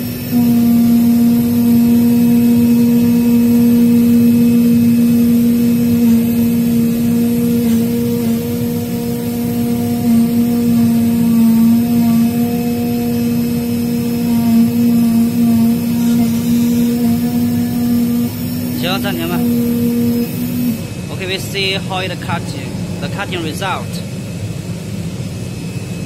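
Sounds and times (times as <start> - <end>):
laser cutting machine humming: 0.0 - 26.0.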